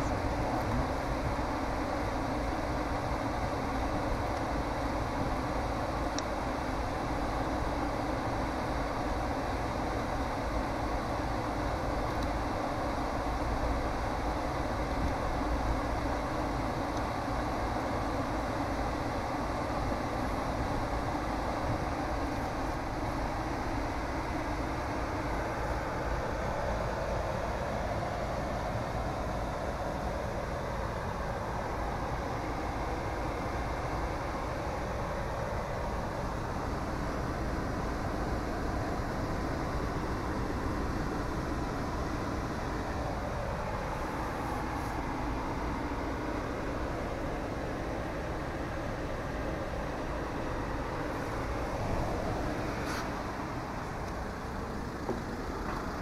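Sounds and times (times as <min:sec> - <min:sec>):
steady low background noise: 0:00.0 - 0:56.0.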